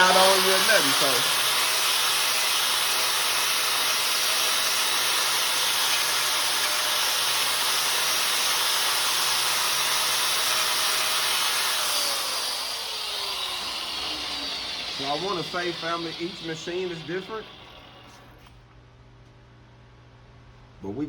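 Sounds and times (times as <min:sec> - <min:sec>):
power tool motor running: 0:00.0 - 0:18.5.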